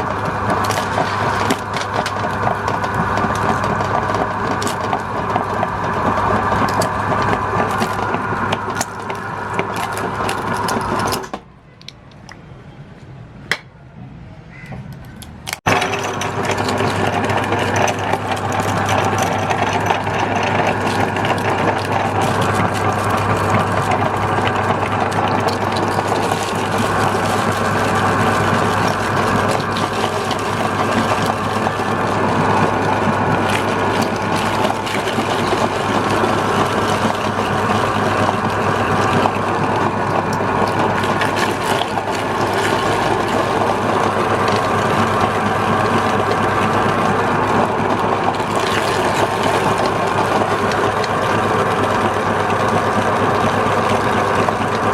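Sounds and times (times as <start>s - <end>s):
electric meat grinder running: 0.0s - 11.4s, 15.7s - 54.9s
snacks cracking in grinder: 0.0s - 12.4s, 14.6s - 54.9s.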